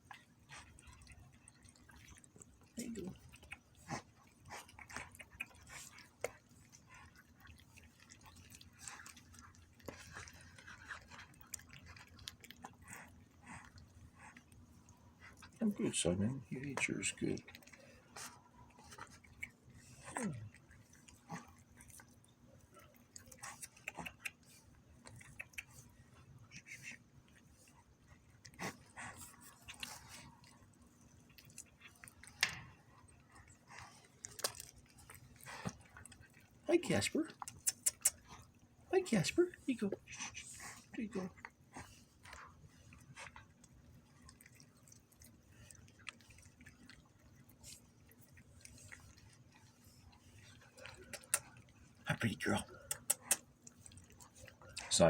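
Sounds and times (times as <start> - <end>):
cat chewing food: 0.0 - 55.0.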